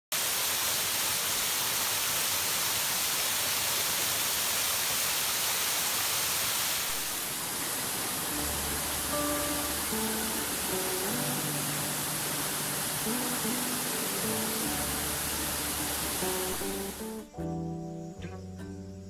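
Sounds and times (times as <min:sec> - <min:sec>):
waterfall rushing: 0:00.2 - 0:17.3.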